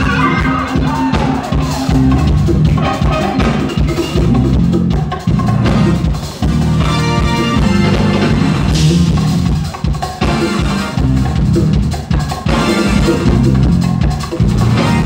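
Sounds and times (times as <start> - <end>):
drums: 0.0 - 15.0
electric bass: 0.0 - 15.0
jazz fusion band playing: 0.0 - 15.0.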